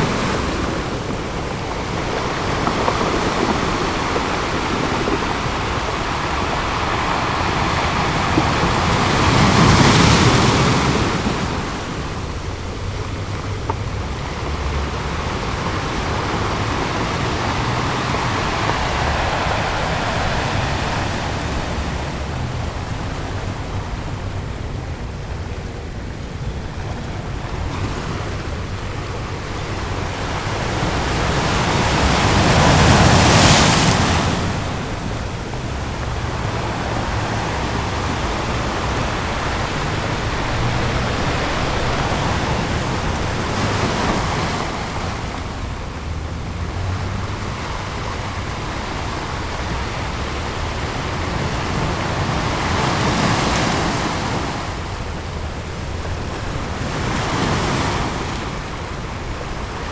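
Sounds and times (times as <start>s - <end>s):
ocean waves crashing on beach: 0.0s - 59.9s.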